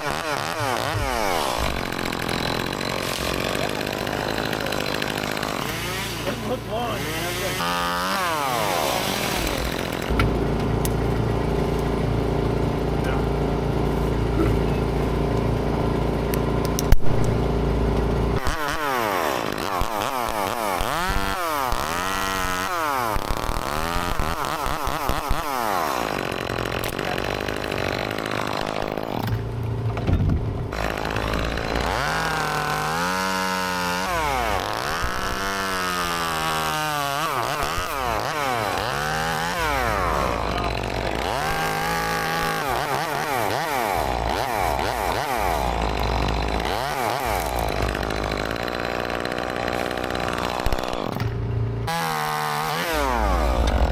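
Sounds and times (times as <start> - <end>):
chainsaw revving cutting wood: 0.0 - 29.6, 30.7 - 53.9.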